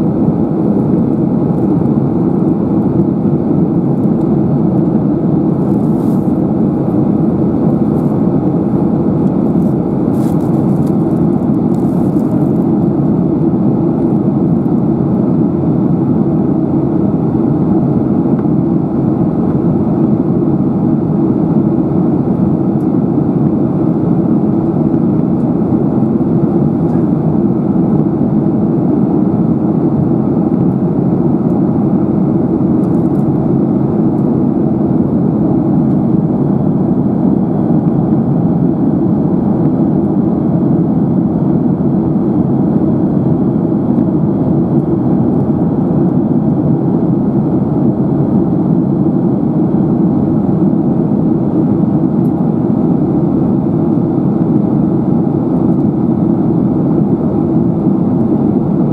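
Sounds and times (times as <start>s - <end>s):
jet engine rumble: 0.0s - 58.9s.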